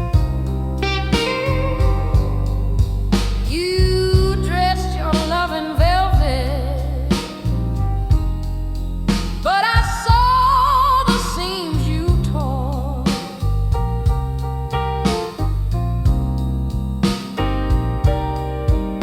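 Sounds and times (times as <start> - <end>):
low bass accompaniment: 0.0 - 19.0
slow blues melody with vibrato: 0.0 - 19.0.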